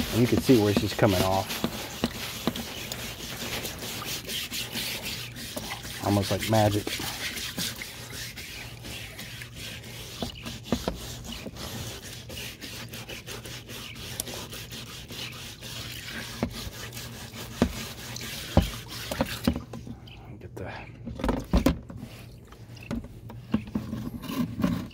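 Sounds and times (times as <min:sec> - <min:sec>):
brush scrubbing wet metal: 0:00.0 - 0:20.0, 0:21.4 - 0:24.9.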